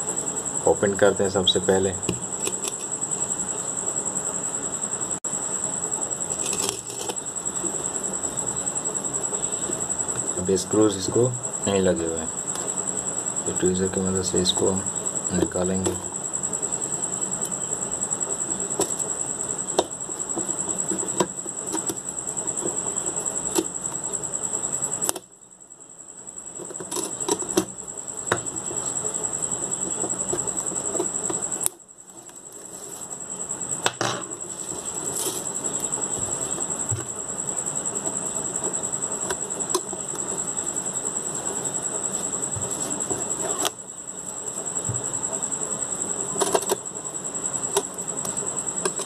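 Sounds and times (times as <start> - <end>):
steady high-pitched whine: 0.0 - 49.0.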